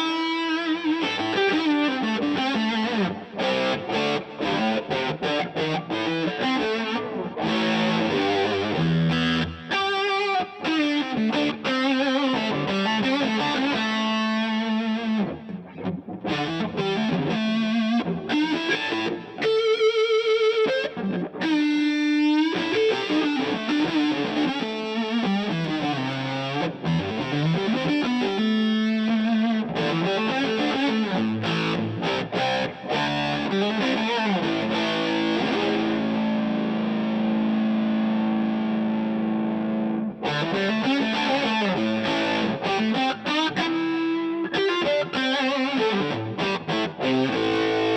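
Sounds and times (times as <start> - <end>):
electric guitar with pitch bends: 0.0 - 47.9.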